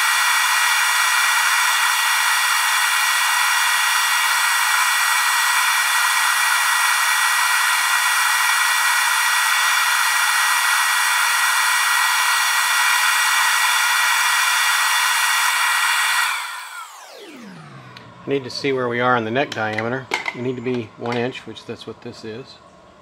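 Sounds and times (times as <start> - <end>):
lathe cutter motor whine: 0.0 - 22.4.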